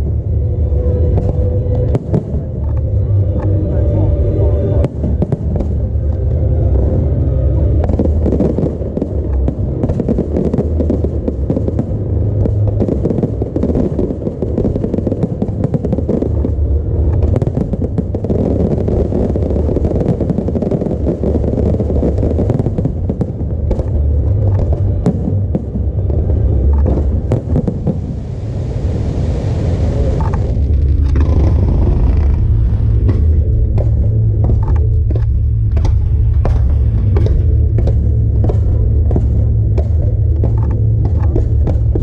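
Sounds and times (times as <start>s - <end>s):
deep rumble: 0.0s - 42.0s
fireworks bangs and crackling: 0.0s - 42.0s.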